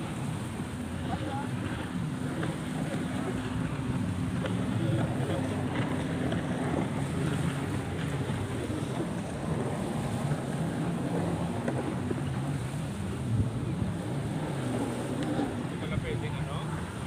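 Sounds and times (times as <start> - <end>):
jet ski engines droning: 0.0 - 17.0
light surf: 0.0 - 17.0
wind buffeting microphone: 0.0 - 17.0.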